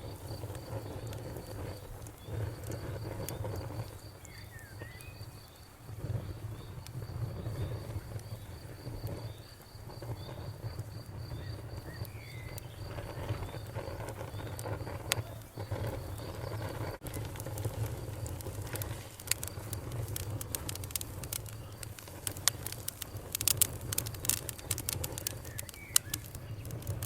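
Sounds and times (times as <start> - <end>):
bonfire crackling and popping: 0.0 - 27.0
crickets chirping: 0.0 - 27.0
low rumble of burning wood: 0.0 - 27.0.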